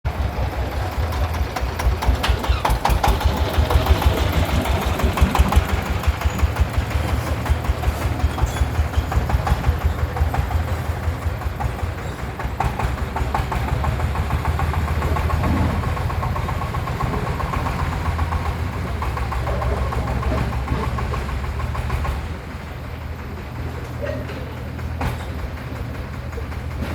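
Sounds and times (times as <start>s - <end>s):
single-cylinder diesel engine running: 0.0s - 26.9s.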